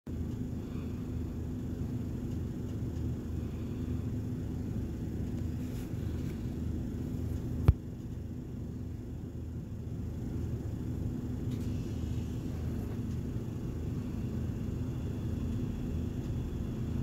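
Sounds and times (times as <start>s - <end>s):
faint hum: 0.1s - 17.0s
low background rumble: 0.1s - 17.0s.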